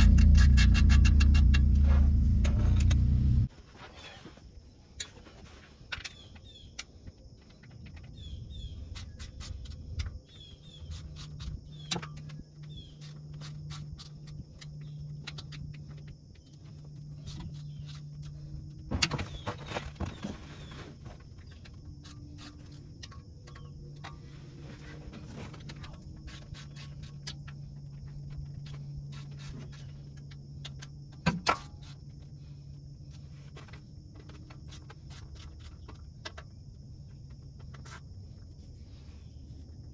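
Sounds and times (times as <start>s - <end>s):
low hum: 0.0s - 5.2s, 6.7s - 39.9s
insects chirring: 0.0s - 39.9s.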